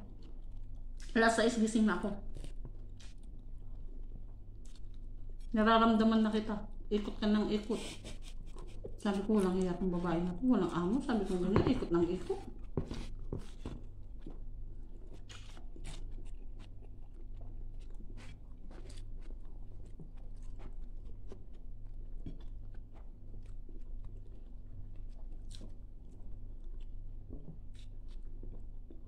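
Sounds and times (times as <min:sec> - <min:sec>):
person chewing and crunching food: 0:00.0 - 0:29.0.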